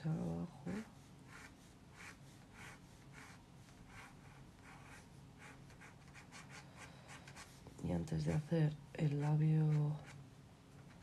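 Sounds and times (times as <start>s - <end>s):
pencil scratching on paper: 0.6s - 7.6s, 8.2s - 10.2s, 10.8s - 11.0s.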